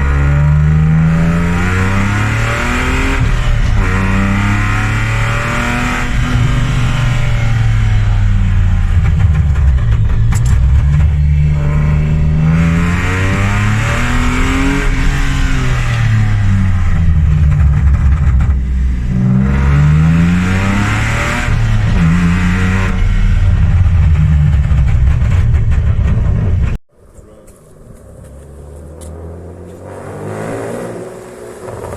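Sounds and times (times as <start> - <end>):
car engine accelerating hard: 0.0 - 31.9.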